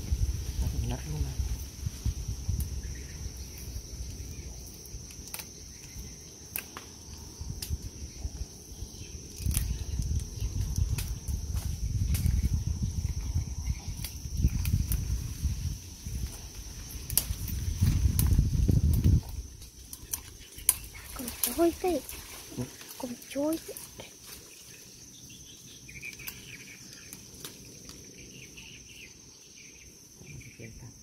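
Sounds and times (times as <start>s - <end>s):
clicks and rustling of branches: 0.0s - 28.7s
high insect buzz: 0.0s - 31.0s.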